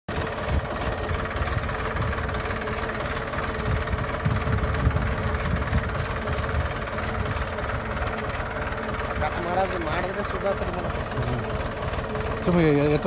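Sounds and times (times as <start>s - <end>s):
tractor engine running: 0.1s - 13.0s.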